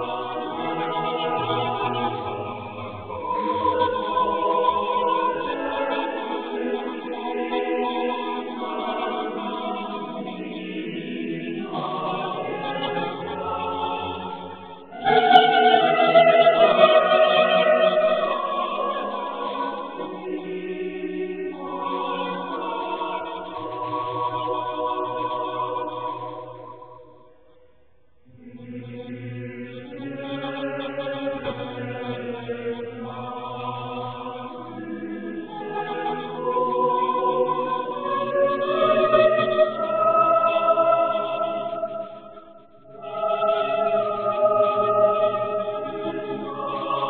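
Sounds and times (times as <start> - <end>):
choir singing a hymn: 0.0 - 27.3, 28.3 - 47.0.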